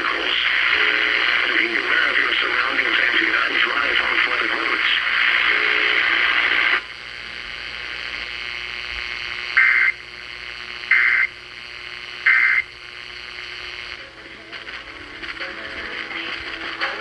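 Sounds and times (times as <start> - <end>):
low broadcast hiss: 0.0 - 17.0
radio static hiss: 0.0 - 17.0.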